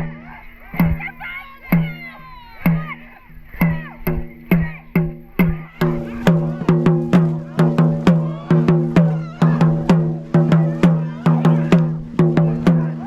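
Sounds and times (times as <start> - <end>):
drum beating low booms: 0.0 - 13.0.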